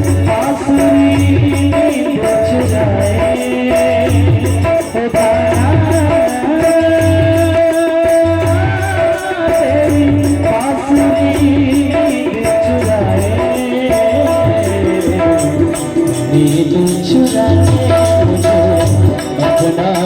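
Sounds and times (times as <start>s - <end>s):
held melody line: 0.0s - 20.0s
jingling percussion: 0.0s - 20.0s
low drum beat: 0.0s - 20.0s.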